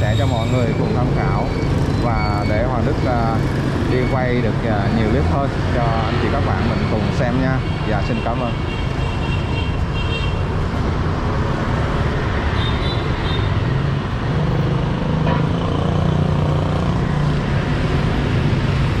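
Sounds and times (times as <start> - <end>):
cars passing: 0.0 - 19.0
motorbike engines: 0.0 - 19.0.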